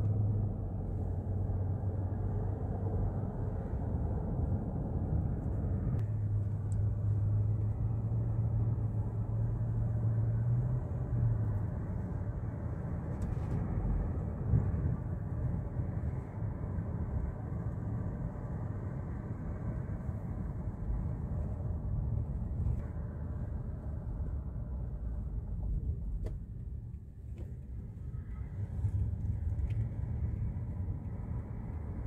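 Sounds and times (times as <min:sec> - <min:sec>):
car cabin engine rumble: 0:00.0 - 0:32.0.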